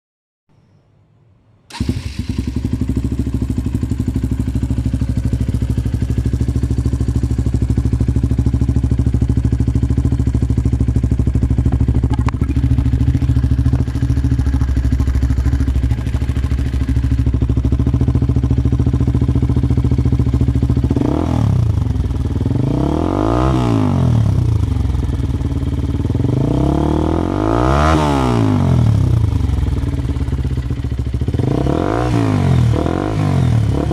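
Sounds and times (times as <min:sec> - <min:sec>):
motorcycle engine idling and revving: 0:01.7 - 0:33.9.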